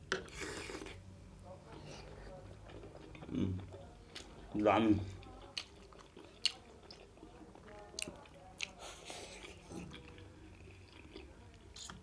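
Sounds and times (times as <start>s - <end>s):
chewing with wet mouth sounds: 1.7s - 12.0s.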